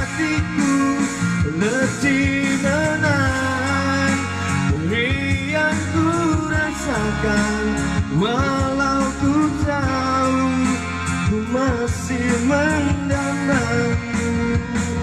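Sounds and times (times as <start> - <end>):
song with sliding lead melody: 0.0 - 15.0.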